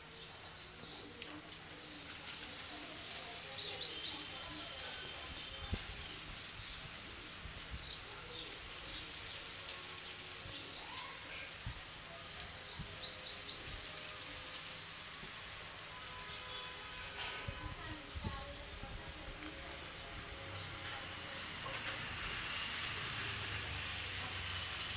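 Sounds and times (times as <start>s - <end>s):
background hiss: 0.0s - 24.9s.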